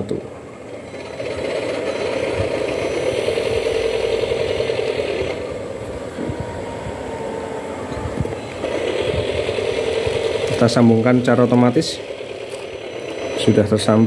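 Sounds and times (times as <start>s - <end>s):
model train wheels rattling: 0.0s - 5.7s, 8.3s - 14.0s
small electric motor whirring: 0.6s - 14.0s.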